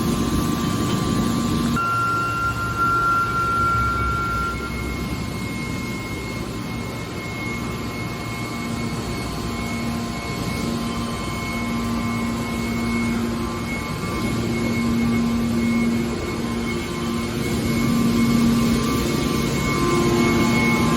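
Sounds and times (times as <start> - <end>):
baler machine hum with whine: 0.0 - 20.9
low tone: 1.8 - 20.9.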